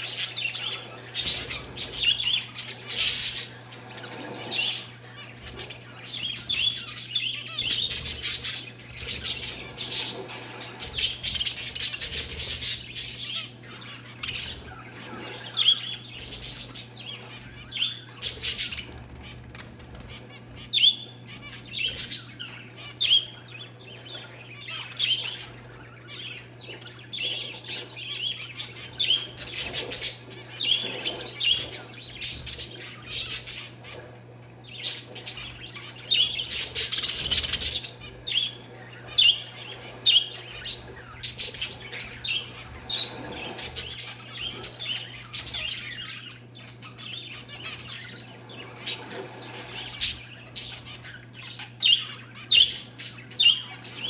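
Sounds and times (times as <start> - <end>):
birds chirping: 0.0 - 54.0
steady low hum: 0.0 - 54.0.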